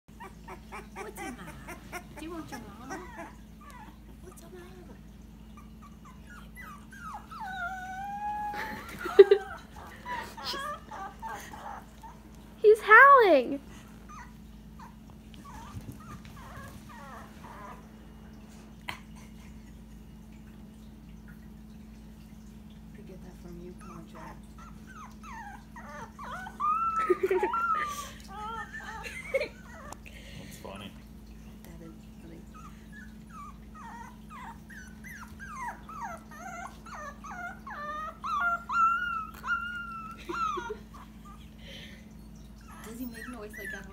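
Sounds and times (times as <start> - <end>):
puppy whimpering: 0.1 - 17.9, 23.7 - 31.0, 32.3 - 43.9.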